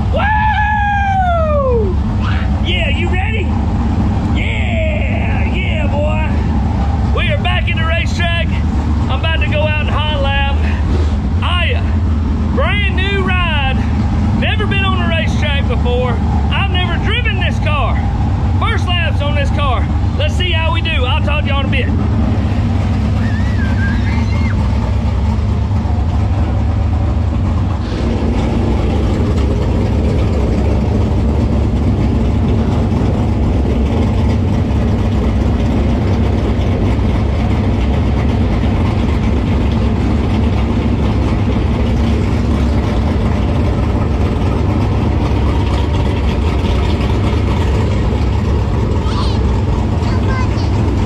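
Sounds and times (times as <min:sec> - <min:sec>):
race car engine idling: 0:00.0 - 0:51.0.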